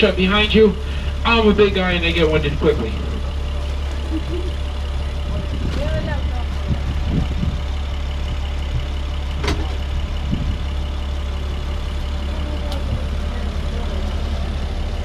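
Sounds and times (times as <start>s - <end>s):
tram engine idling: 0.0s - 15.0s.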